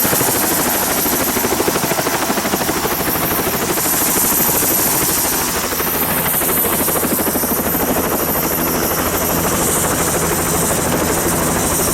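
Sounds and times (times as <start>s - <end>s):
helicopter engine drone: 0.0s - 11.9s
helicopter rotor beat: 0.0s - 11.9s.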